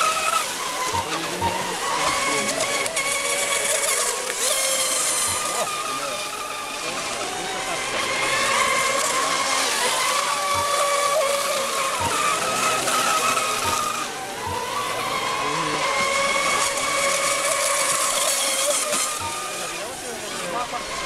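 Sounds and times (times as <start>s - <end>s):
model boat motors whining: 0.0s - 21.0s.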